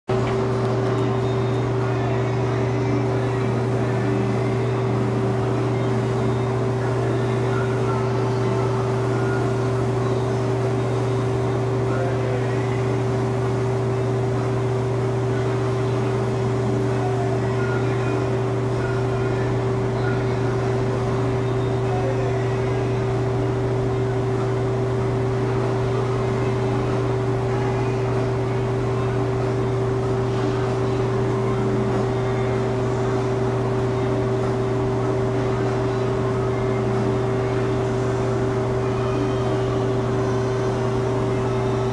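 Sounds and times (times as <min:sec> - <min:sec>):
spray-painting machine hum: 0:00.1 - 0:41.9.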